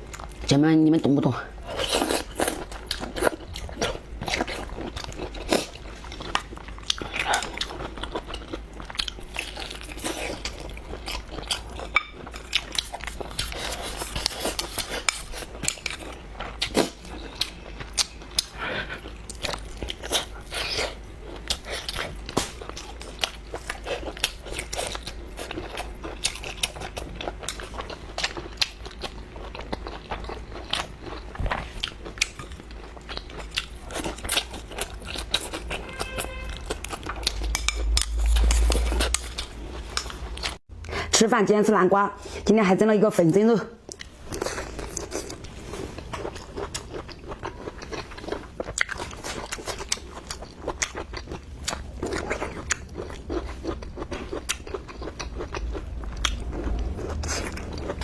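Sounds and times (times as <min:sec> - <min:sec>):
person chewing and crunching food: 0:00.0 - 0:41.2, 0:43.8 - 0:58.0.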